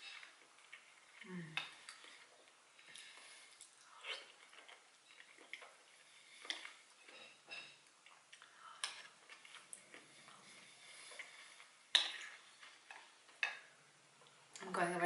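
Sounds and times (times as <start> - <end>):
soft chewing: 0.0 - 14.7.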